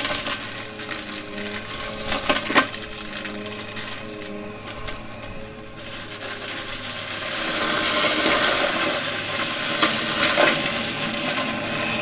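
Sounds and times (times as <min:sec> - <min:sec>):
sharp crackles: 0:00.0 - 0:12.0
vacuum cleaner sucking debris: 0:00.0 - 0:12.0.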